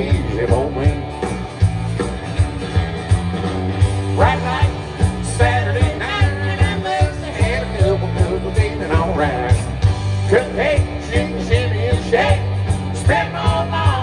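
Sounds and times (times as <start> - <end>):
country rock band playing: 0.0 - 14.0
lead guitar line bending: 0.0 - 14.0.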